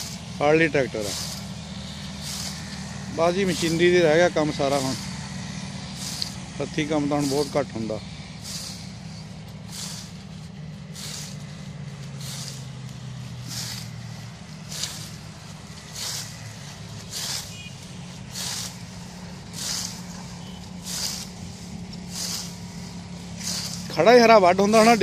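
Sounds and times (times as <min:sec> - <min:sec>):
blade swishing through fodder: 0:00.0 - 0:25.0
steady low drone: 0:00.0 - 0:25.0.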